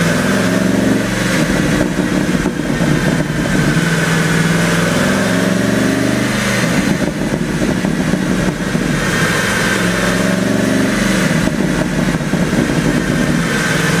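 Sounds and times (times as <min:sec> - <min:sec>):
car engine revving: 0:00.0 - 0:14.0
exhaust crackling and popping: 0:00.0 - 0:14.0.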